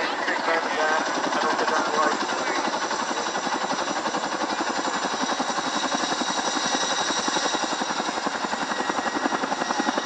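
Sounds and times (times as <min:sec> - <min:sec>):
helicopter blade chop: 0:00.0 - 0:10.0
turbine whine: 0:00.0 - 0:10.0.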